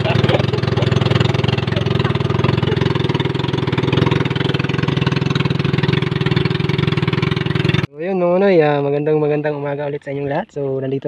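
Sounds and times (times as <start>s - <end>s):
boat engine running: 0.0s - 7.9s, 8.7s - 11.0s.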